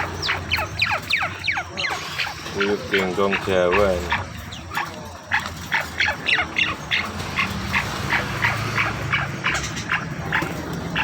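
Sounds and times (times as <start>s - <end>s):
partridge calling: 0.0s - 11.0s.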